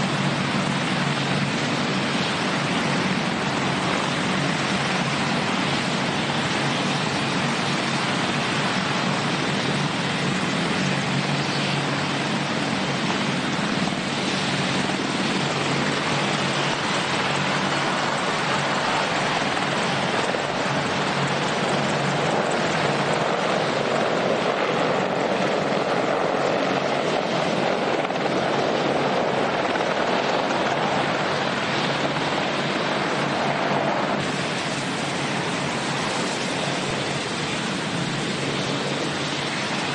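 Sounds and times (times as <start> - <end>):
helicopters flying low past: 0.0 - 39.9.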